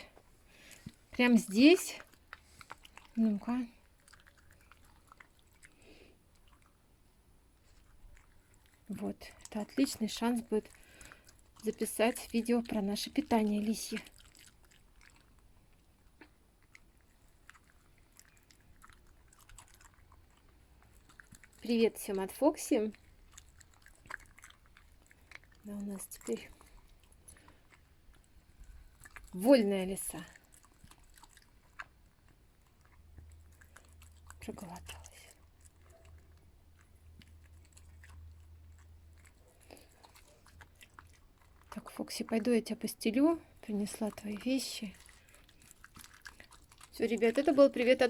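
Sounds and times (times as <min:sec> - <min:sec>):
fox chewing food: 0:00.0 - 0:48.0
low steady hum: 0:00.0 - 0:48.0.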